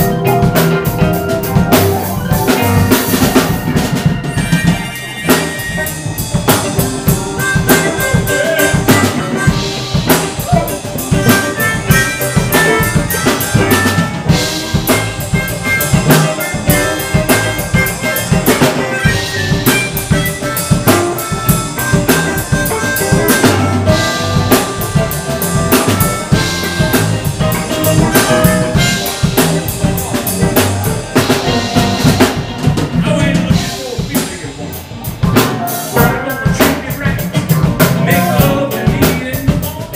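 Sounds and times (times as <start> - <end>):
guitar lead with long held notes: 0.0 - 33.8
drum kit beating: 0.0 - 39.9
electric blues band playing: 0.0 - 39.9.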